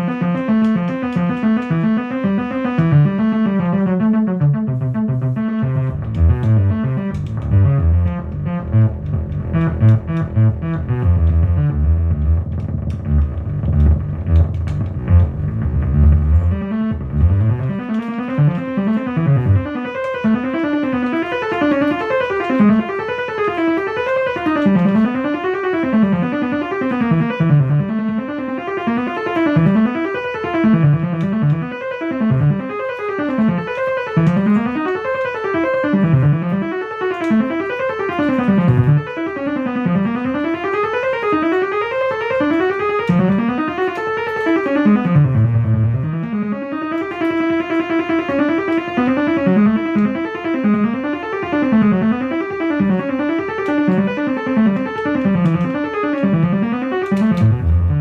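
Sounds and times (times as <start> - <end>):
electric piano chords wavering: 0.0 - 58.0.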